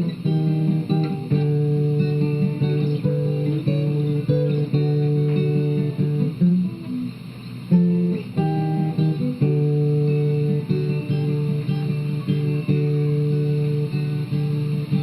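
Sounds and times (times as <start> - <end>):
strummed guitar chords: 0.0 - 15.0.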